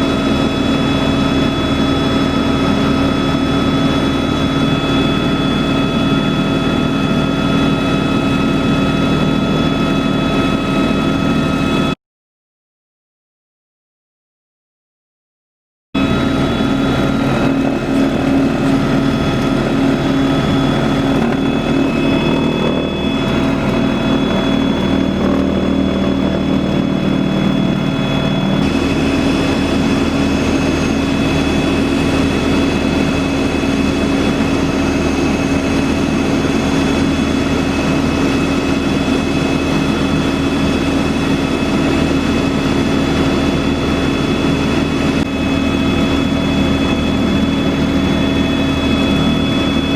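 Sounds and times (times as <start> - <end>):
helicopter turbine whine and rotor hum: 0.0 - 12.0, 16.0 - 49.9.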